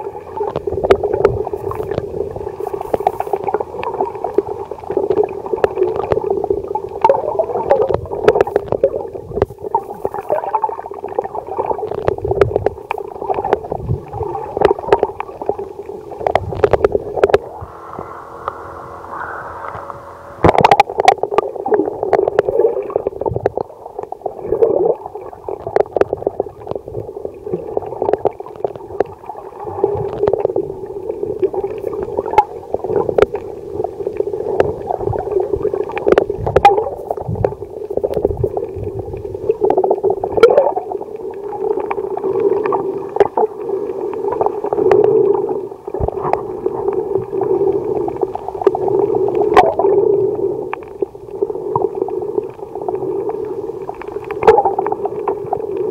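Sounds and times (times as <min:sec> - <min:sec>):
gurgling underwater water movement: 0:00.0 - 0:55.9
sharp clicks underwater: 0:00.2 - 0:55.9.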